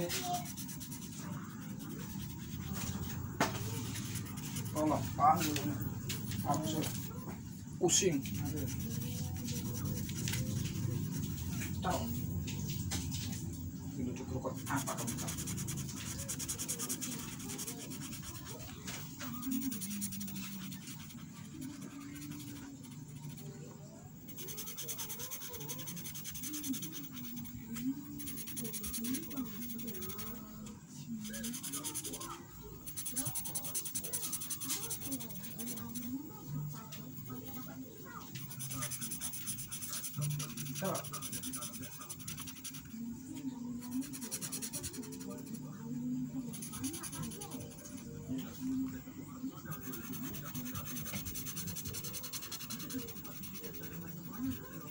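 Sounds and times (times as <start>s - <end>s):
marker scribbling on paper: 0.0s - 7.2s, 7.8s - 13.4s, 14.5s - 23.5s, 24.3s - 36.4s, 37.2s - 43.0s, 43.8s - 45.6s, 46.5s - 49.0s, 49.6s - 54.9s
faint voices: 0.0s - 54.9s.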